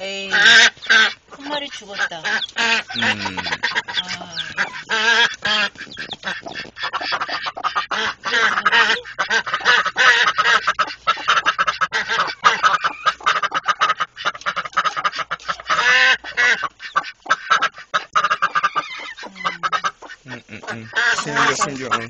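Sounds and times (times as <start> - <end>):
hen clucking: 0.0 - 22.0
chicks cheeping: 0.1 - 22.0.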